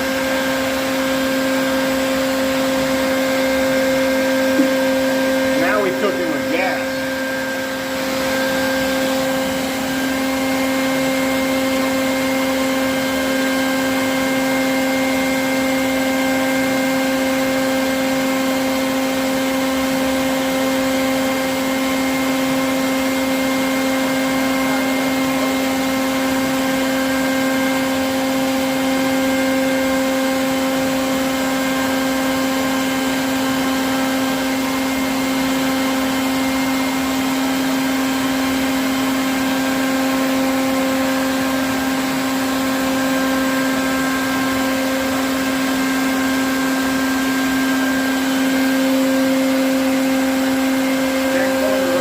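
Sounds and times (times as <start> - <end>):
vacuum motor humming and whining: 0.0 - 52.0.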